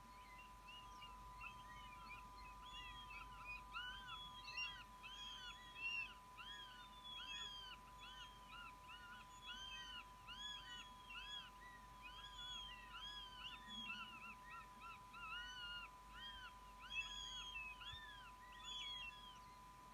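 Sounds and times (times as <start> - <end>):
faint high whine: 0.0 - 19.9
young hawks whistled calls: 0.2 - 19.6.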